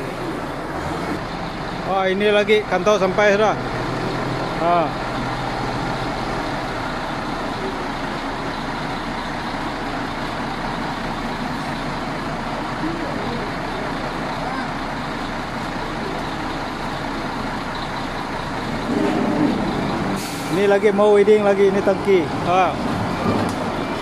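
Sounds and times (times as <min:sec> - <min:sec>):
forklift engine running: 0:00.0 - 0:24.0.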